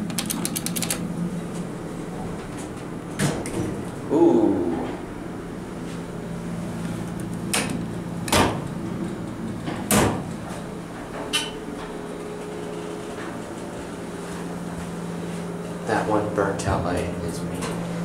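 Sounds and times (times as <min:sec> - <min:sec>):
elevator low hum: 0:00.0 - 0:18.0.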